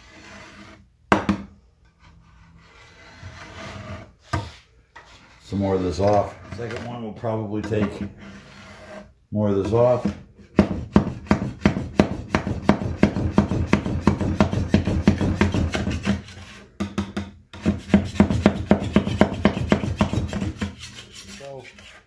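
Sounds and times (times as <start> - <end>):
putty knife scraping wood: 0.0 - 0.9, 2.0 - 7.0, 7.6 - 9.1, 10.9 - 16.8, 17.5 - 22.0.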